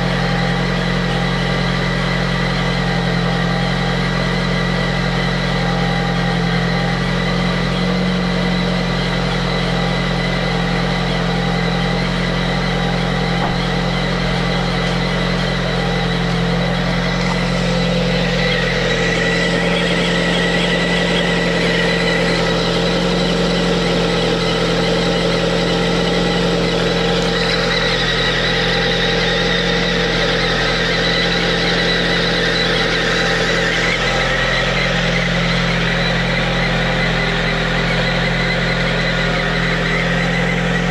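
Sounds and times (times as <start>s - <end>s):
car engine idling: 0.0s - 40.9s
high whistle from engine belts: 0.0s - 40.9s.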